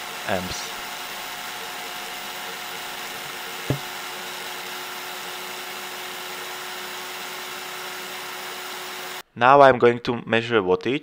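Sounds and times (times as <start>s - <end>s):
blender motor whirring: 0.0s - 9.2s.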